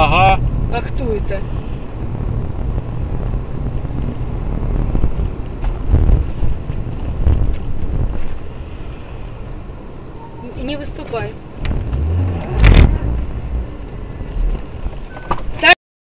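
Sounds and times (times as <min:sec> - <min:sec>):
wind buffeting microphone: 0:00.0 - 0:15.2
road noise: 0:00.0 - 0:15.8.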